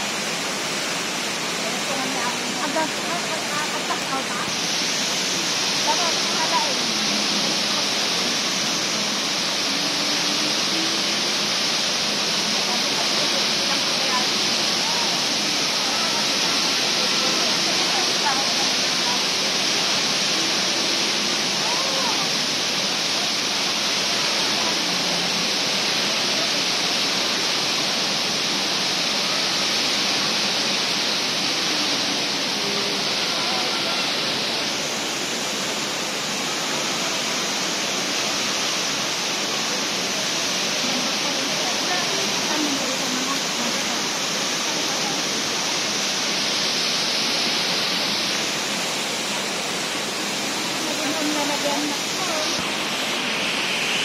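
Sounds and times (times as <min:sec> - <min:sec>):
indoor waterfall pouring: 0:00.0 - 0:54.0.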